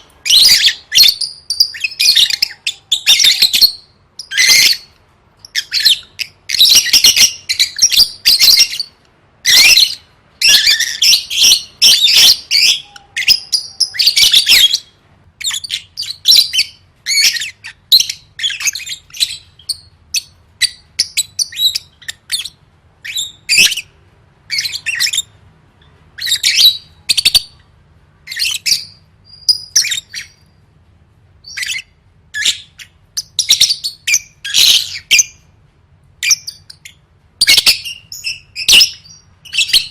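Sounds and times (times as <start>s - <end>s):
lovebird chirping: 0.0s - 30.6s, 31.4s - 35.5s, 36.2s - 39.9s.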